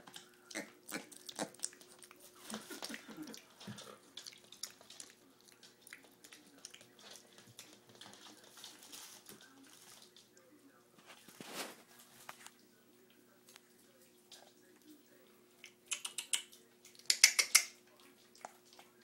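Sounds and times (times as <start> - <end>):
piglet eating wet food: 0.0 - 19.0.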